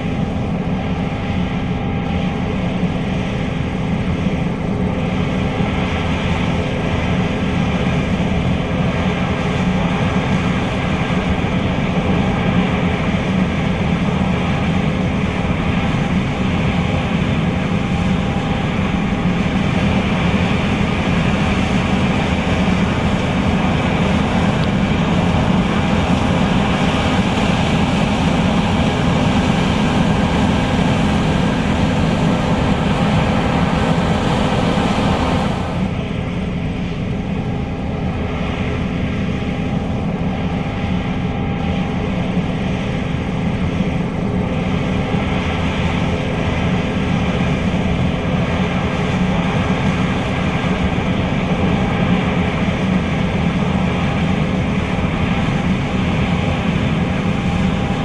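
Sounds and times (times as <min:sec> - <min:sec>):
combine harvester machinery drone: 0:00.0 - 0:58.0.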